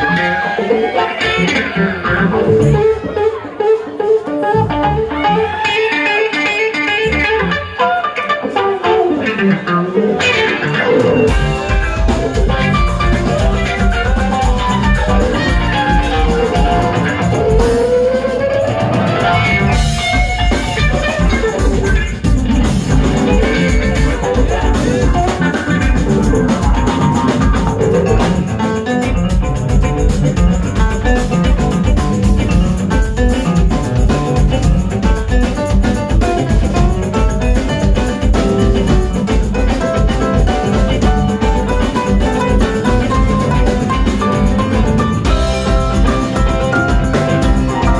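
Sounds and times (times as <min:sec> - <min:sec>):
funk band playing: 0:00.0 - 0:47.9.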